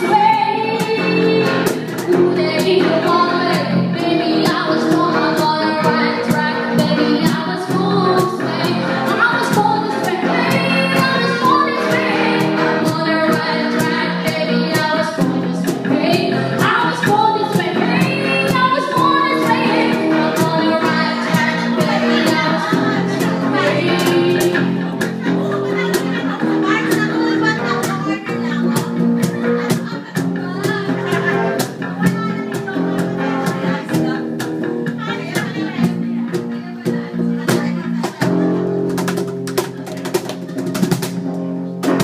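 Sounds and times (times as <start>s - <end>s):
people singing: 0.0s - 38.3s
guitar: 0.0s - 42.0s
live band playing: 0.0s - 42.0s.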